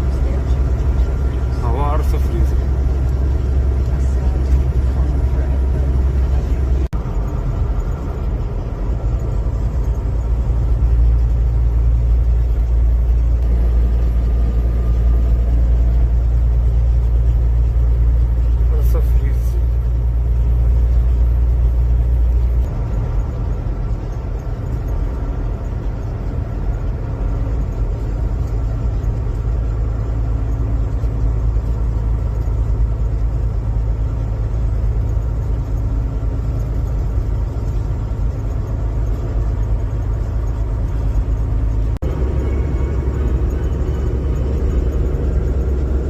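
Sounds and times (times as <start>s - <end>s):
car engine and road rumble: 0.0s - 46.0s.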